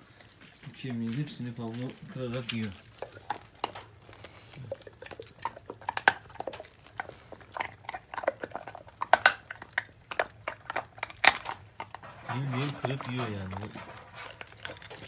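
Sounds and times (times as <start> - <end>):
dog crunching a bone: 0.0 - 15.0.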